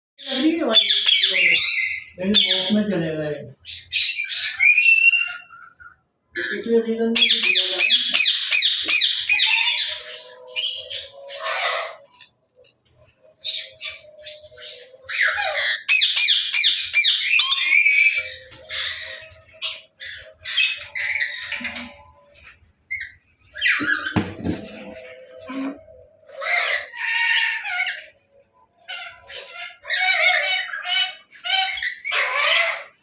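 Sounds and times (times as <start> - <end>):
parrots squawking: 0.2 - 33.0.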